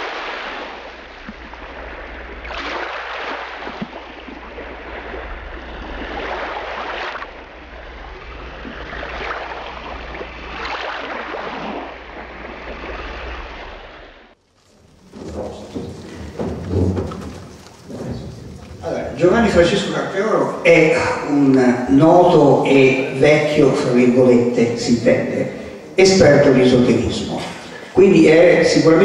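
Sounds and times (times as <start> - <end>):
low hum: 0.0 - 23.8.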